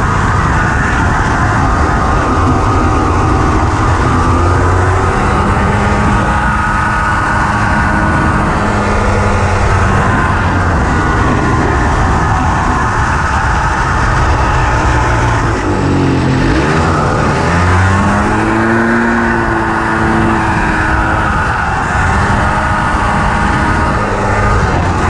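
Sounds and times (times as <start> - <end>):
buggy engine running: 0.0 - 25.0.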